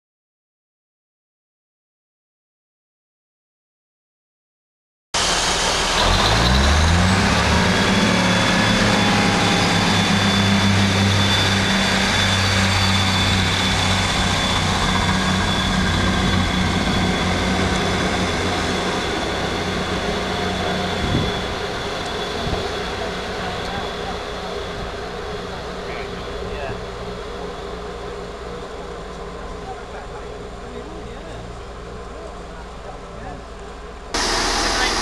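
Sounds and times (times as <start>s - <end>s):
diesel train engines droning: 5.2s - 35.0s
train high whine: 5.2s - 35.0s.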